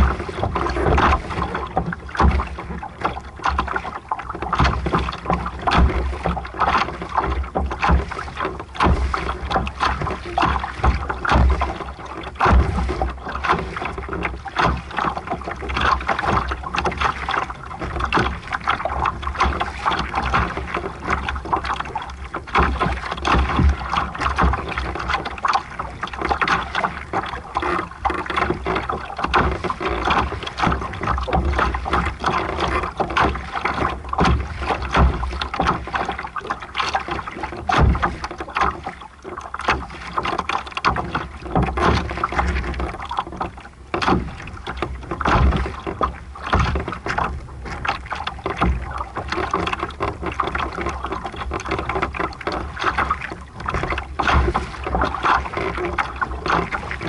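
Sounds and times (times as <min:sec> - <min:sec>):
water rushing along boat hull: 0:00.0 - 0:57.0.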